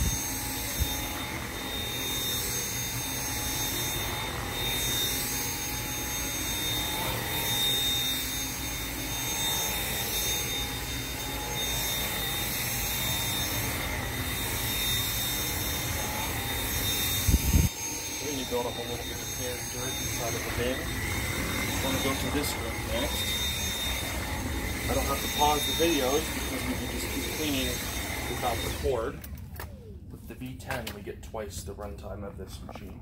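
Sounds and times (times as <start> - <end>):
vacuum cleaner on carpet: 0.0 - 29.3.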